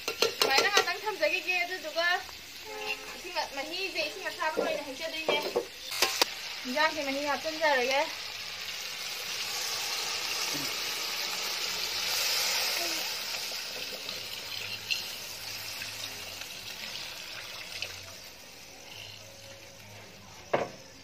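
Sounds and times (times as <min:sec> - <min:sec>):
water splashing into hot pan: 0:00.0 - 0:18.7
hissing in hot pan: 0:00.0 - 0:21.0.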